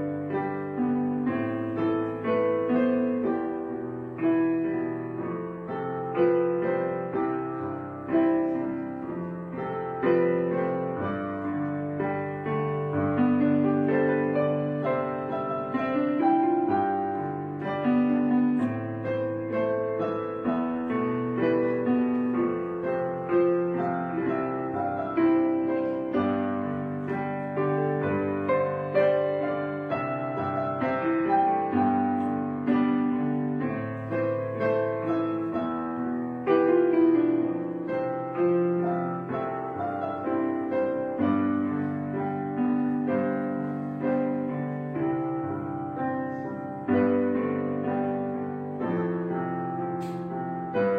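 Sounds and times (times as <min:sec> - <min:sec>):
solo piano piece: 0:00.0 - 0:50.9.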